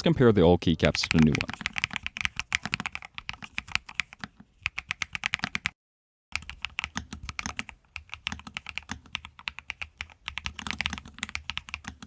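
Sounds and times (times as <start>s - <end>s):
typing on a mechanical keyboard: 1.0s - 5.8s, 6.4s - 12.0s.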